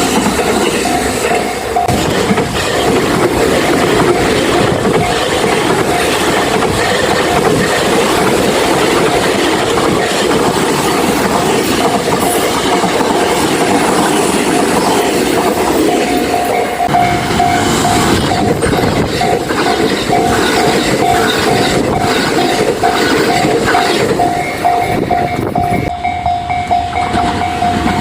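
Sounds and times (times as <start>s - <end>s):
level-crossing alarm: 0.0s - 12.8s, 13.5s - 28.0s
train wheels on rails: 0.0s - 28.0s.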